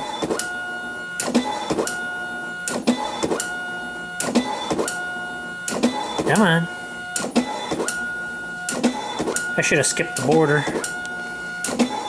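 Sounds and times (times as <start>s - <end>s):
dot matrix print head buzzing: 0.0s - 12.0s.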